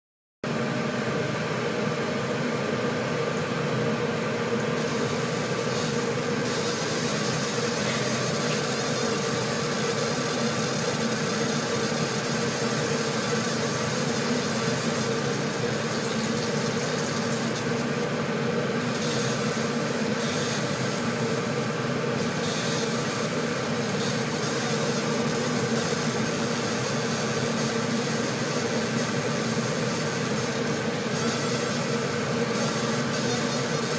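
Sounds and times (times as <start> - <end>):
machine hum: 3.8 - 33.9
high hiss of laser engraving: 4.8 - 33.9.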